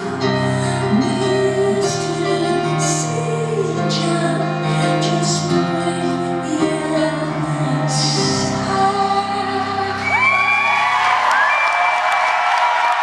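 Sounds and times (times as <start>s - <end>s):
woman singing: 0.0s - 10.7s.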